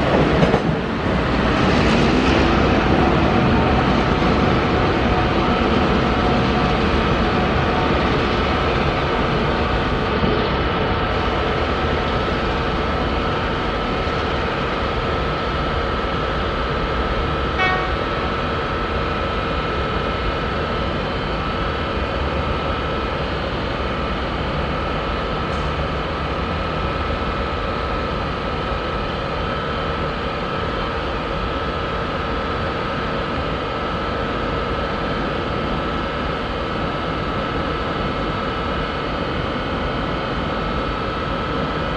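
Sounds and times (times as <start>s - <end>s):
diesel locomotives engine drone: 0.0s - 41.9s
high whine: 0.0s - 41.9s.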